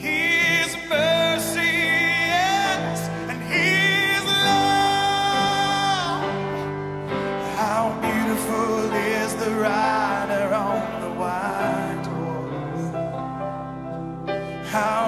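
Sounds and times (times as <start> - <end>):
worship band playing: 0.0 - 13.7.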